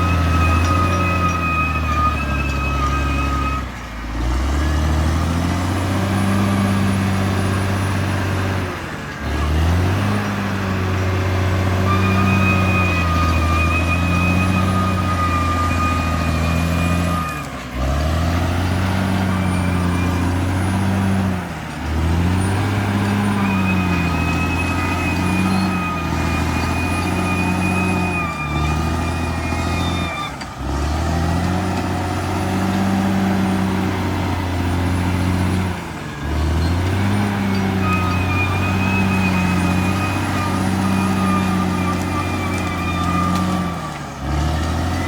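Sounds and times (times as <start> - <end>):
bulldozer diesel engine: 0.0 - 45.0.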